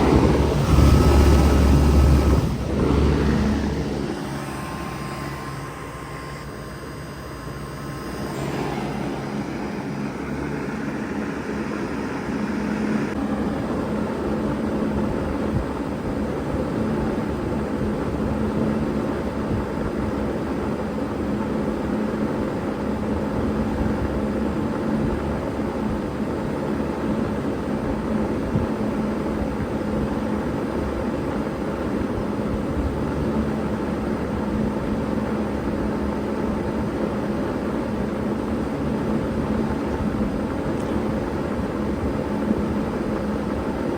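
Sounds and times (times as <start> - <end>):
compressor hum: 0.0 - 43.9
fan rushing air: 0.0 - 43.9.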